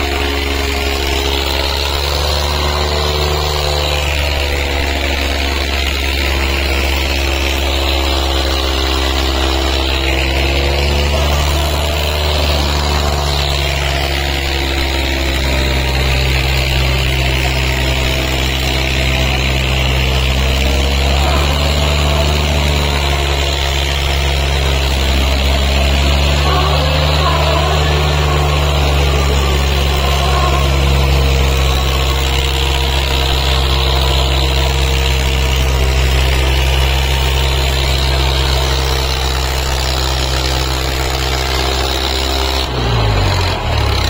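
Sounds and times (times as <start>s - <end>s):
tractor diesel engines droning: 0.0s - 44.0s.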